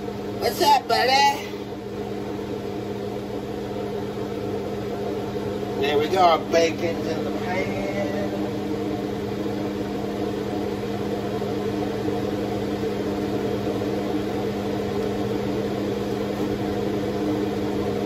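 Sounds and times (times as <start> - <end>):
kitchen appliance motor humming: 0.0 - 18.0.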